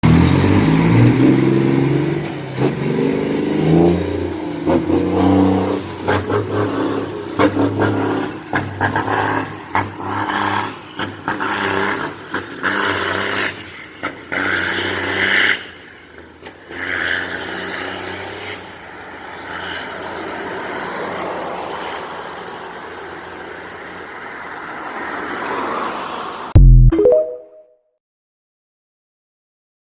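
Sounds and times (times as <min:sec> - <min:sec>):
rush of moving truck: 0:00.0 - 0:26.5.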